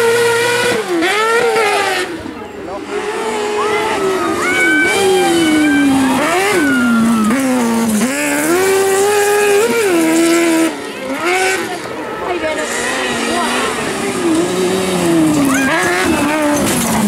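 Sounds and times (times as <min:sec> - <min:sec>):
engine revving hard: 0:00.0 - 0:17.0.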